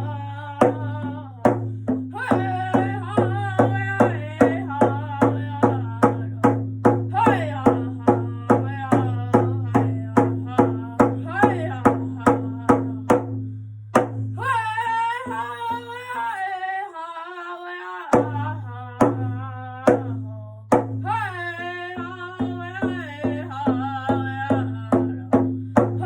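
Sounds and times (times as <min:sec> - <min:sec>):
person singing: 0:00.0 - 0:13.4, 0:14.4 - 0:26.0
steady drumbeat: 0:00.0 - 0:14.4, 0:18.2 - 0:21.2, 0:22.1 - 0:26.0.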